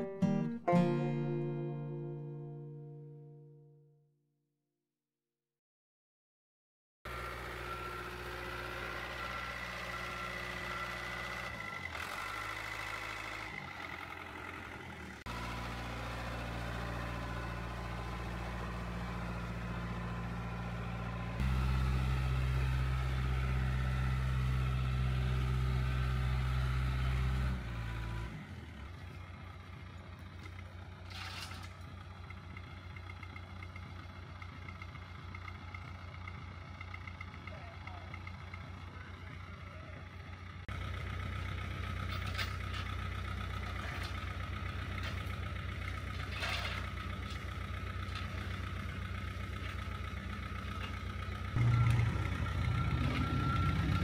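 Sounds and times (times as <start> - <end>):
diesel engine running under load: 7.1 - 54.0.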